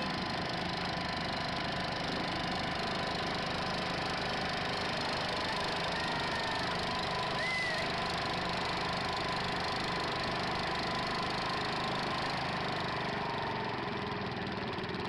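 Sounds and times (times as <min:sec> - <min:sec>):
garden tractor engine idling: 0:00.0 - 0:15.0.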